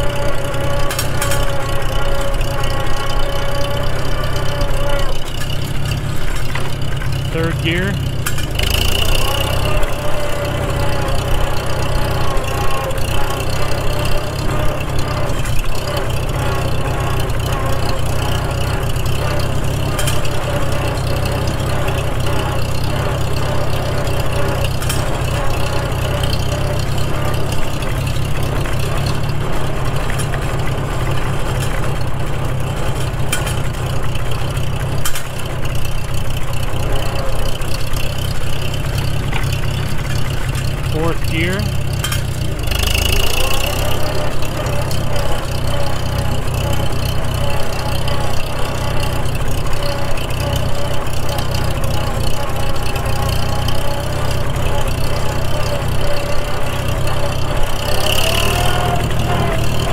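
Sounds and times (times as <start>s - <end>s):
gear whine: 0.0s - 59.9s
tractor engine running: 0.0s - 59.9s.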